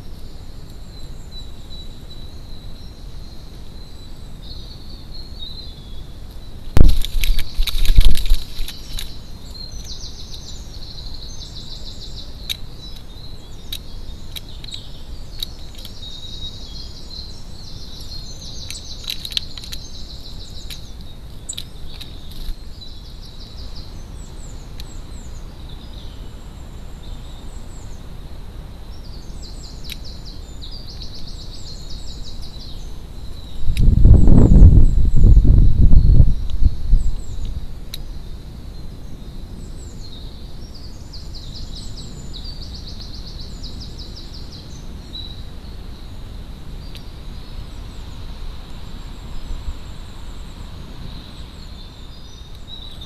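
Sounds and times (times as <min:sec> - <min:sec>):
songbirds trilling: 0:00.0 - 0:53.0
steady low hiss: 0:00.0 - 0:53.0.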